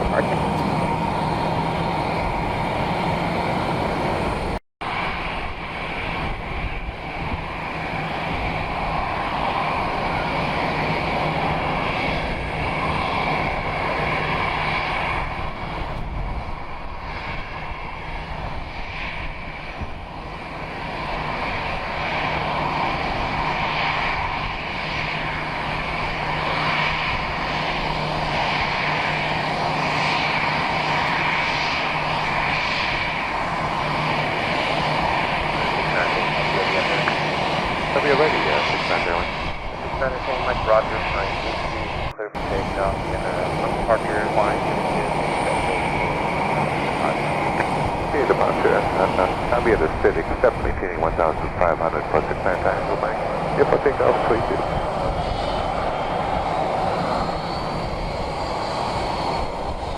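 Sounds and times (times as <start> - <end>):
airplane engines droning: 0.0 - 59.9.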